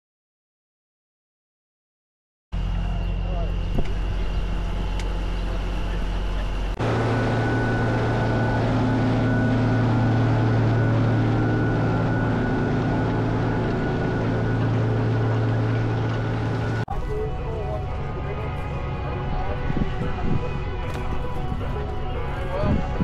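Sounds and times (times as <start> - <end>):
tractor diesel engine running: 2.6 - 23.0.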